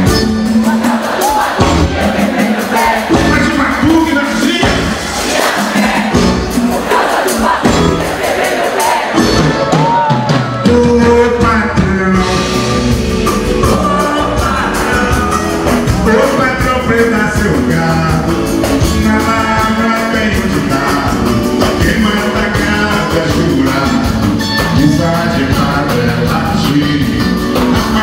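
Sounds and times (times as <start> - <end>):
fast percussion: 0.0 - 28.0
lead vocal singing: 0.0 - 28.0
live samba band: 0.0 - 28.0.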